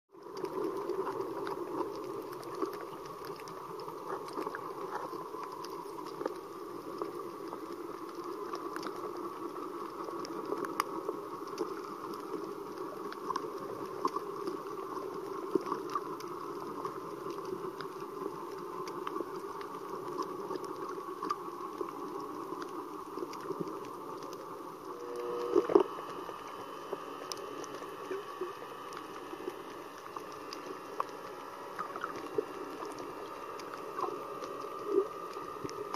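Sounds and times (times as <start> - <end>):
reef clicks and crackles: 0.1 - 35.9
muffled underwater hiss: 0.2 - 35.9.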